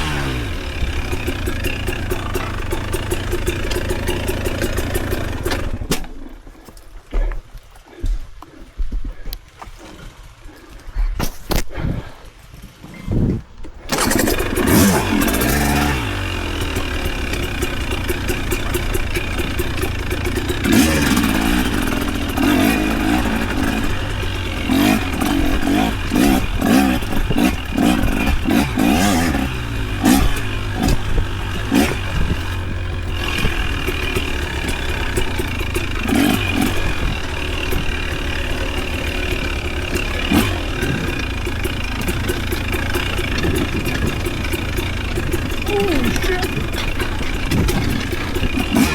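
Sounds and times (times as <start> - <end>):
vehicle engine revving: 0.0 - 5.9, 13.9 - 48.9.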